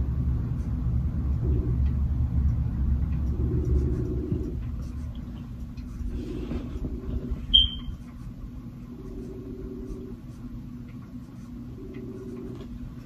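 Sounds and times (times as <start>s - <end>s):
room rumble and hum: 0.0s - 13.0s.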